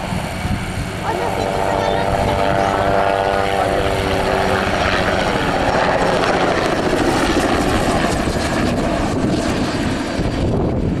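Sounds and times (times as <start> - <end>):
helicopter rotor and engine: 0.0 - 11.0.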